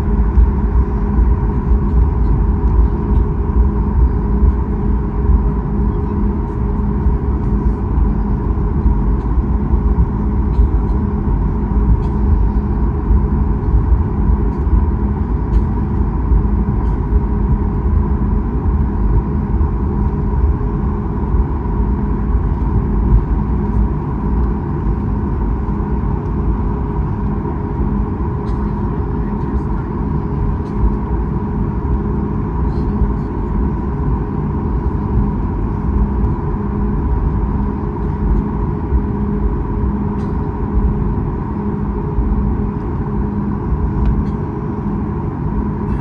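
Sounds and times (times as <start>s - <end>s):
aircraft engines humming: 0.0s - 46.0s.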